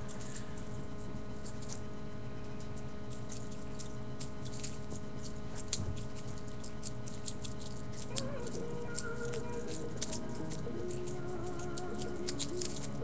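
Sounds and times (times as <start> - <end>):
toy rattling clicks and jingles: 0.0 - 1.9, 2.8 - 13.0
steady hum: 0.0 - 13.0.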